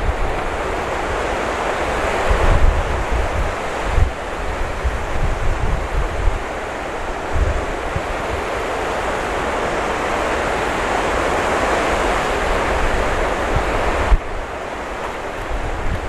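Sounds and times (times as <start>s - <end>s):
heavy waves breaking: 0.0s - 16.0s
wind buffeting microphone: 0.0s - 16.0s.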